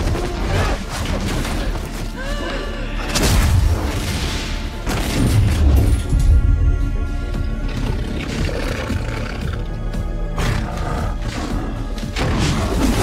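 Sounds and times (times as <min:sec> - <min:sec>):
dramatic music: 0:00.0 - 0:13.0.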